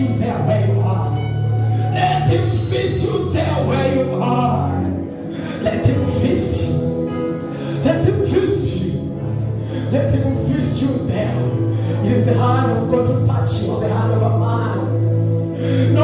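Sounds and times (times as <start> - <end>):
steady bass notes: 0.0 - 16.0
worship band music: 0.0 - 16.0.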